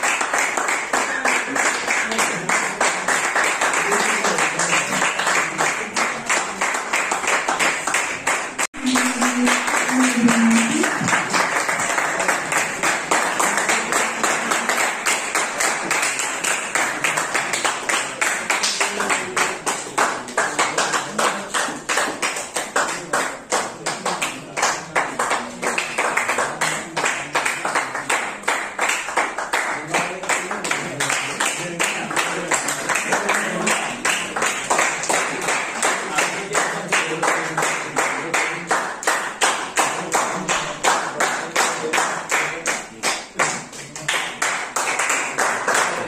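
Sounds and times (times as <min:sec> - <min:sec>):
people clapping: 0:00.0 - 0:46.0.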